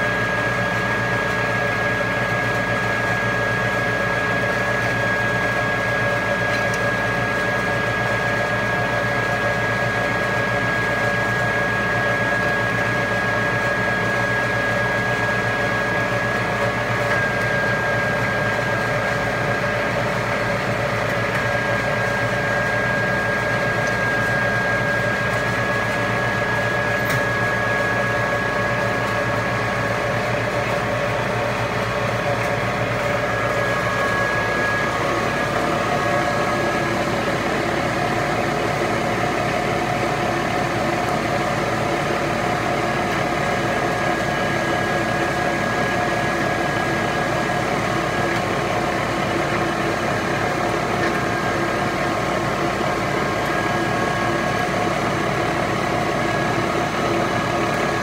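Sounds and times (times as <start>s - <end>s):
milling machine hum and whine: 0.0s - 58.0s.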